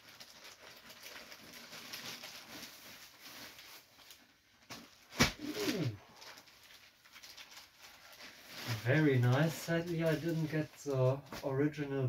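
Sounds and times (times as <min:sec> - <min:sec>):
plastic packaging rustling: 0:00.0 - 0:11.6.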